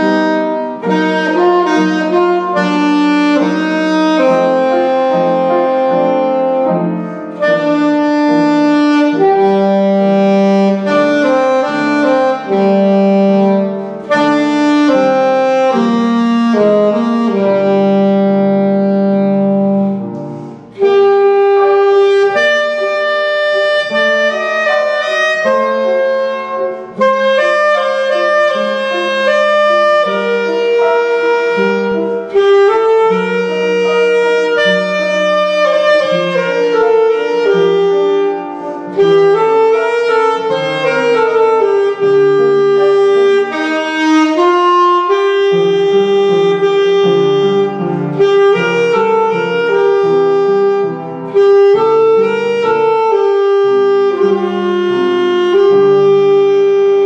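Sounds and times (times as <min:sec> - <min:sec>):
alto saxophone melody: 0:00.0 - 0:57.0
upright piano: 0:00.0 - 0:57.0.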